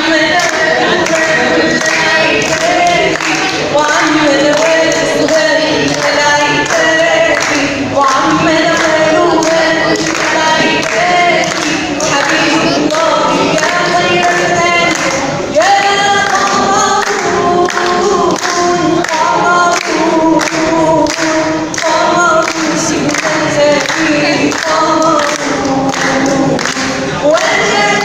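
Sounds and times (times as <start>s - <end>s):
choir-like backing vocals: 0.0s - 28.0s.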